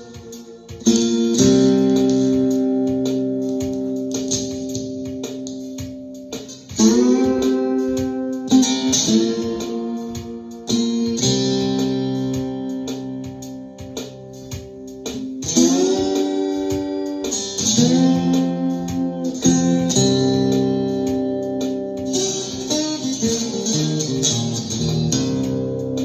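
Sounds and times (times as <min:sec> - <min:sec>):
guitar ringing chords: 0:00.0 - 0:26.0
steady drum rhythm: 0:00.0 - 0:26.0.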